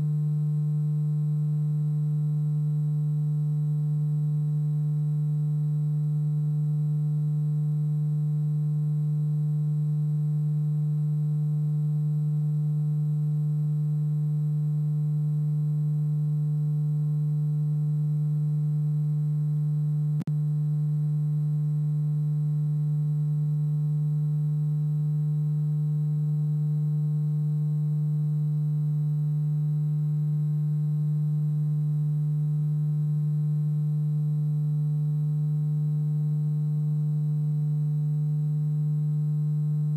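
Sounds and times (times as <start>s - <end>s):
low electronic hum: 0.0s - 39.9s.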